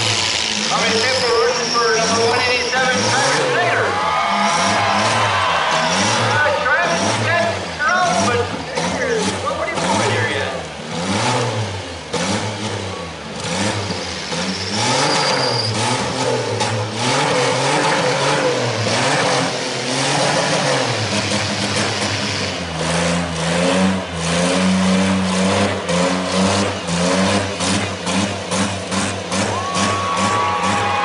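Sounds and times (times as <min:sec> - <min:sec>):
car engines revving hard: 0:00.0 - 0:31.0.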